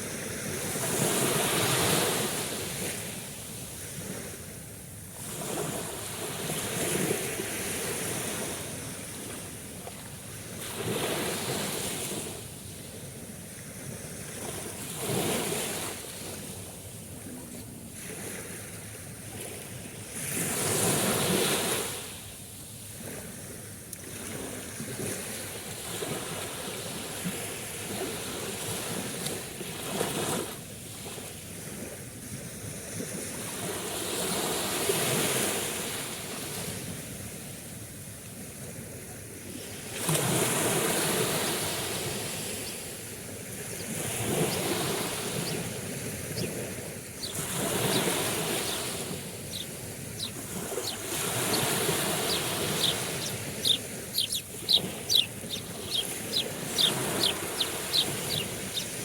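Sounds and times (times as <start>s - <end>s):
sea waves breaking on shore: 0.0s - 37.6s, 38.4s - 59.0s.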